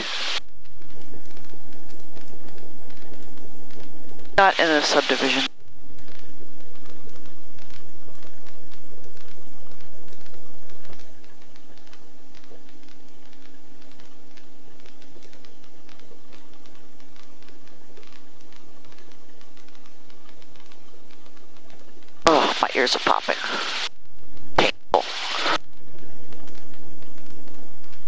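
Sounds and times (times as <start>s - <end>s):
faint rapid clicks: 0.6s - 24.7s, 25.3s - 28.0s.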